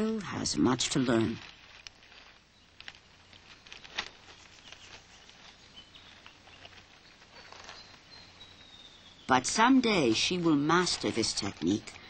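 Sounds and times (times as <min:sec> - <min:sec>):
leaves and twigs rustling: 0:00.0 - 0:12.0.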